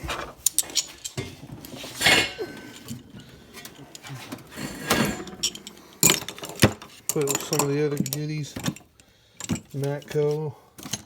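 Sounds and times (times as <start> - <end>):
metal hand tools clinking: 0.0 - 11.0.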